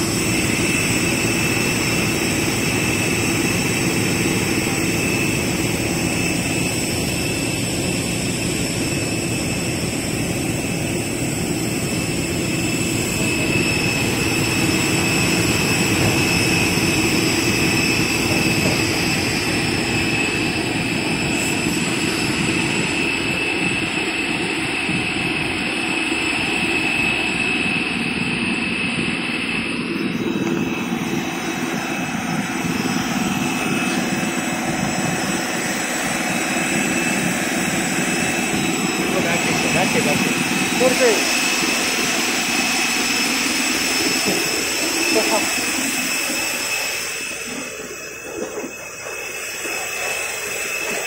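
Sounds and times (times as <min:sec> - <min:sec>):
high-pitched whine: 0:00.0 - 0:51.0
jet turbines roaring: 0:00.0 - 0:51.0.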